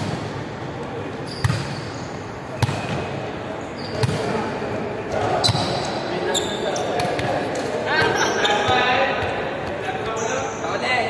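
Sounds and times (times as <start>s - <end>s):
volleyball hits in a hall: 0.0s - 11.0s.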